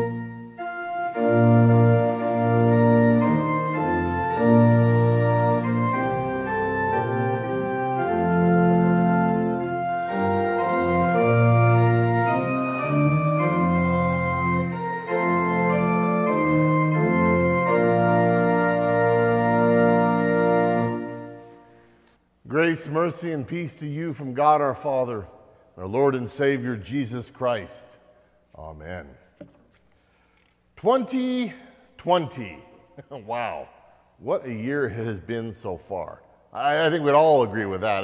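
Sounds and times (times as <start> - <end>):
church organ chords: 0.0 - 29.3, 29.9 - 38.0.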